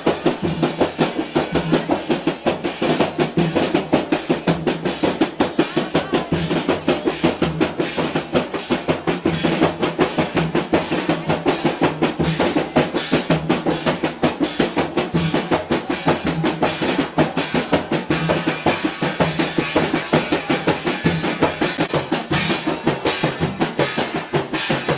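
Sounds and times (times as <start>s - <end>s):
frame drums struck by hand: 0.0s - 24.9s
snare drum played with sticks: 0.0s - 24.9s.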